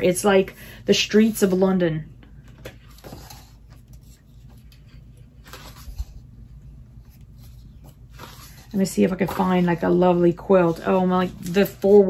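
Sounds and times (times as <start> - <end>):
book pages rustling: 2.2 - 12.0.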